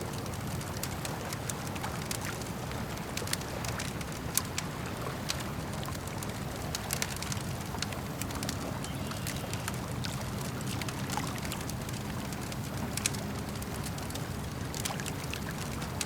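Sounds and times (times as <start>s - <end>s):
campfire crackling: 0.0s - 16.0s
lake water lapping: 0.0s - 16.0s.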